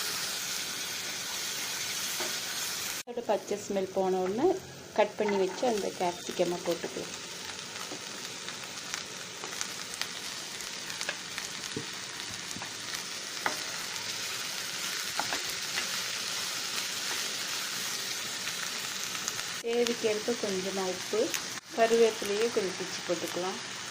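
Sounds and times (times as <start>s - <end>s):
spices sizzling in oil: 0.0s - 23.9s.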